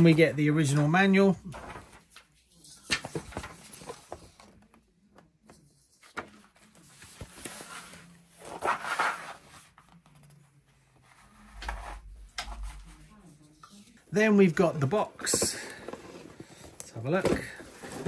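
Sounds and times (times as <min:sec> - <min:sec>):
paper pages rustling and flipping: 0:00.0 - 0:04.8, 0:05.4 - 0:18.0.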